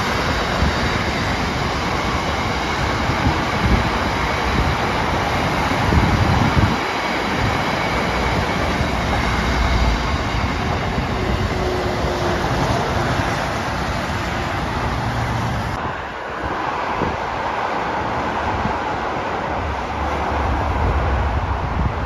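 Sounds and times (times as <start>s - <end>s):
freight train rumbling by: 0.0s - 22.0s
lorries passing close: 0.0s - 22.0s
roar of traffic: 0.0s - 22.0s.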